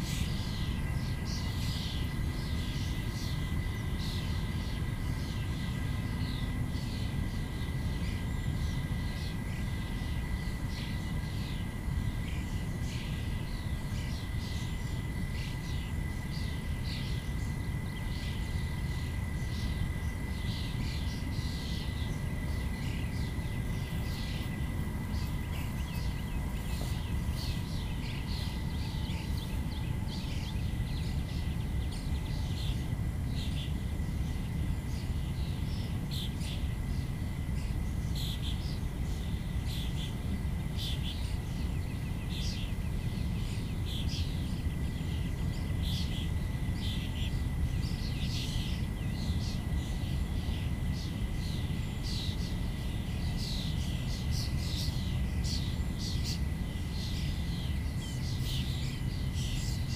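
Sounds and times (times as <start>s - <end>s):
bird chirps: 0.0s - 59.9s
wind on microphone: 0.0s - 59.9s.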